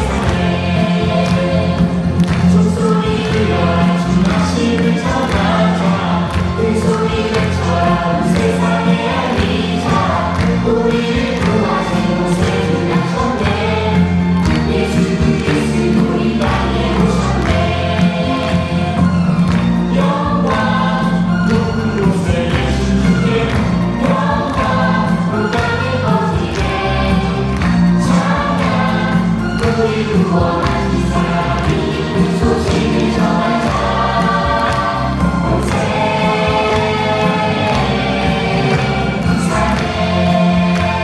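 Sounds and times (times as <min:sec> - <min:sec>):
choir singing worship song: 0:00.0 - 0:41.0.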